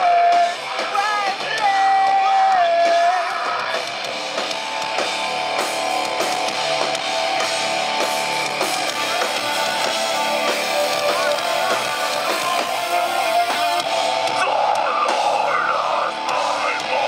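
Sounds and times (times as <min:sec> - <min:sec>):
distorted electric guitar: 0:00.0 - 0:17.0
drum kit: 0:00.0 - 0:17.0.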